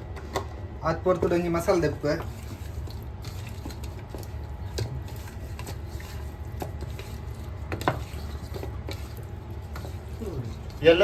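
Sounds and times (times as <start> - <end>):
steady low hum: 0.0 - 11.0
soft food squishing: 0.7 - 11.0
utensils clicking and tapping: 1.1 - 11.0.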